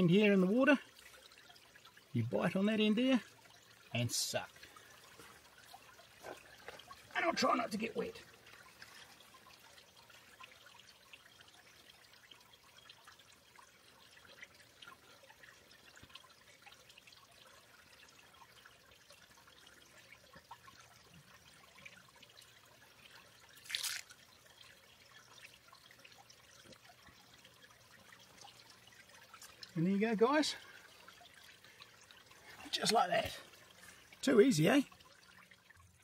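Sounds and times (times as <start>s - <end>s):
creek trickling: 0.0s - 36.0s.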